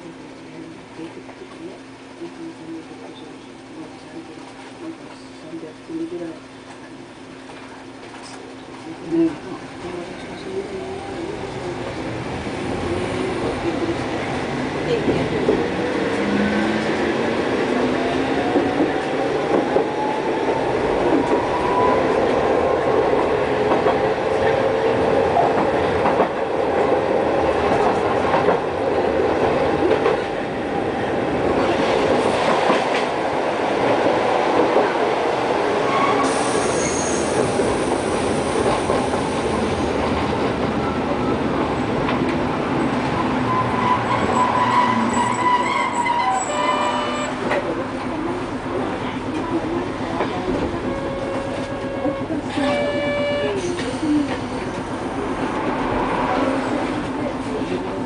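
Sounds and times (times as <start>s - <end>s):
steel wheels rumbling on rail: 0.0s - 58.0s
streetcar motor whine: 0.0s - 58.0s.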